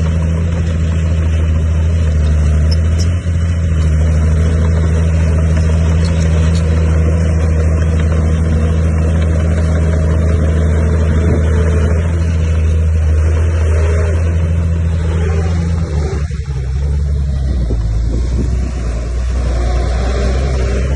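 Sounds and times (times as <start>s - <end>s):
heavy diesel engine droning: 0.0s - 20.9s.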